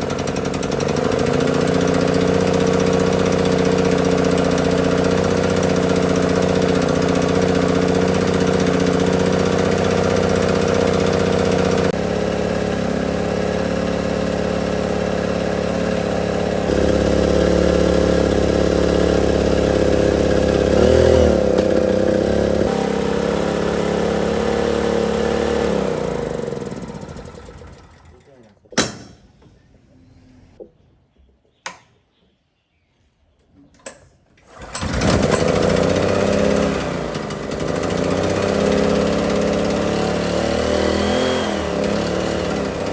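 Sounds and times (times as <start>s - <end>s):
generator engine running: 0.0s - 28.4s, 34.5s - 42.9s.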